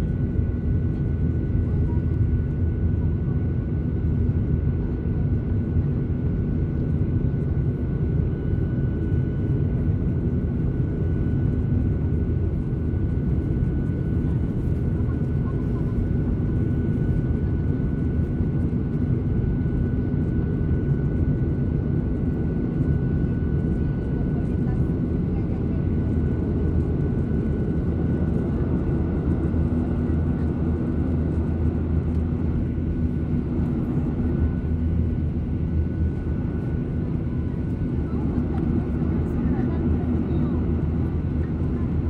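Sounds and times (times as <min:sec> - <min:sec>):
airplane cabin rumble: 0:00.0 - 0:42.0.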